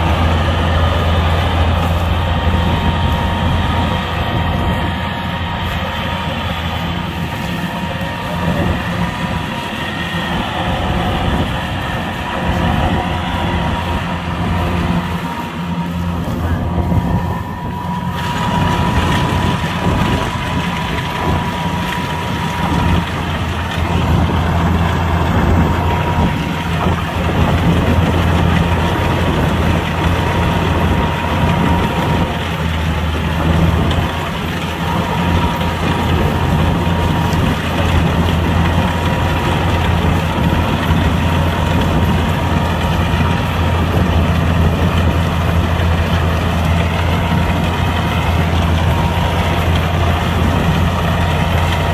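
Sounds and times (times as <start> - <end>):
diesel engine droning: 0.0 - 51.9
high whine: 0.0 - 51.9.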